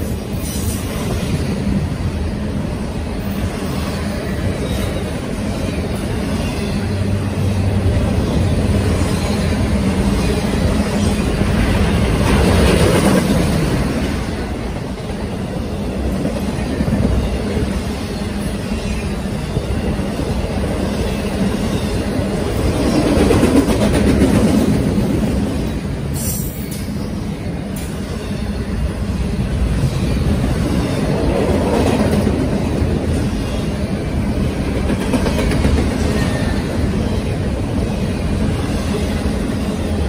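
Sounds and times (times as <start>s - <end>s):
freight train wheels rumbling on rails: 0.0s - 40.0s.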